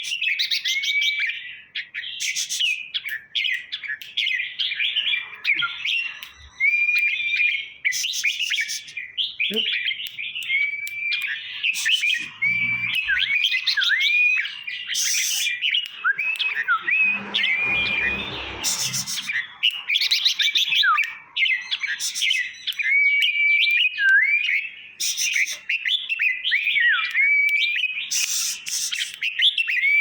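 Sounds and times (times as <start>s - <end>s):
bird song whistles and chirps: 0.0s - 30.0s.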